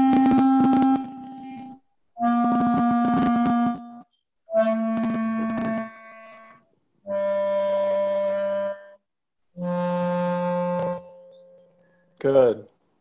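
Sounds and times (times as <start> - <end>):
clarinet playing held notes: 0.0 - 9.0, 9.6 - 11.9.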